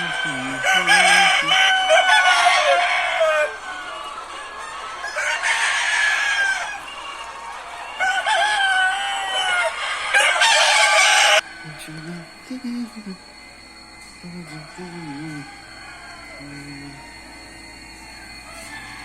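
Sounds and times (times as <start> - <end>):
roosters crowing: 0.0 - 19.0.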